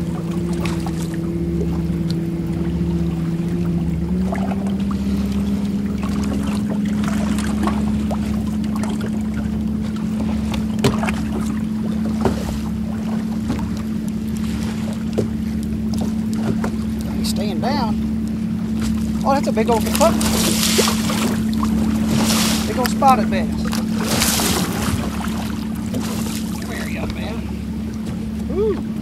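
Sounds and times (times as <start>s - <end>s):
electric trolling motor hum: 0.0s - 29.0s
water lapping at hull: 0.0s - 29.0s
wind: 0.0s - 29.0s.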